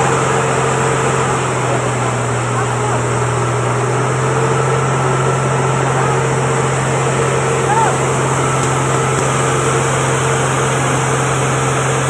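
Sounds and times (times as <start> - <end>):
pump engine hum: 0.0 - 12.0
water hose spraying: 0.0 - 12.0.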